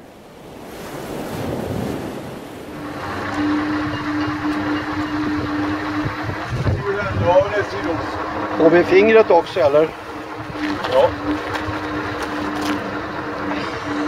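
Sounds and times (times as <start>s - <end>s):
wind buffeting microphone: 0.4s - 14.0s
steady mechanical hum: 2.7s - 14.0s.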